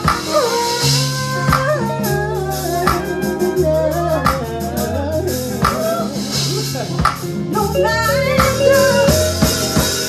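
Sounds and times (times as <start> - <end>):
bass notes: 0.0 - 10.0
person singing: 0.0 - 10.0.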